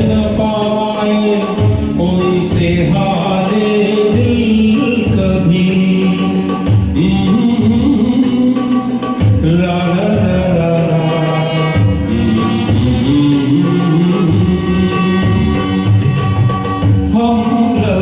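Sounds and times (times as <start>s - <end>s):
man singing long notes: 0.0s - 16.4s, 17.1s - 18.0s
karaoke backing music with beat: 0.0s - 18.0s.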